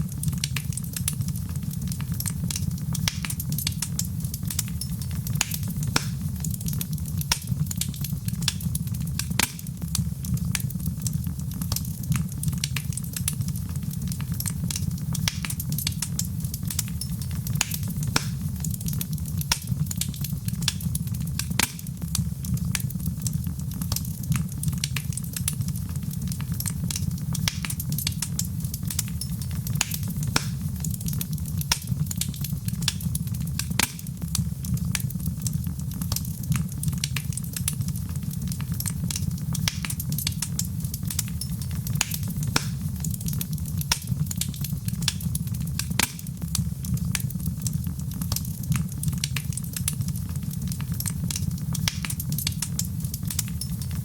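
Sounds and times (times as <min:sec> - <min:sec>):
fire crackling in a fireplace: 0:00.0 - 0:54.0.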